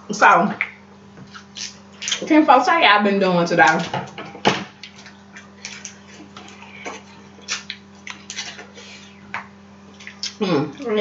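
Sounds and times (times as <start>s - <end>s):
faint electrical hum: 0.0s - 11.0s
people eating with wet smacks: 0.6s - 2.3s, 3.7s - 11.0s.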